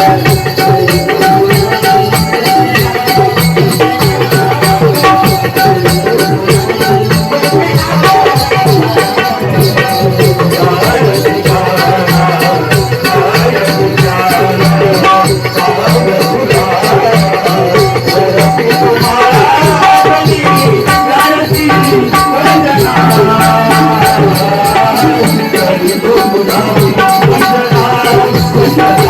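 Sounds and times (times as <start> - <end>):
drum beat: 0.0 - 29.0.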